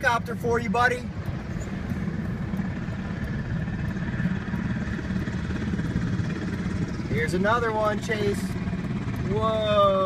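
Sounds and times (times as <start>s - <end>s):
helicopter rotor and turbine: 0.0s - 10.0s
faint steady whine: 0.1s - 10.0s.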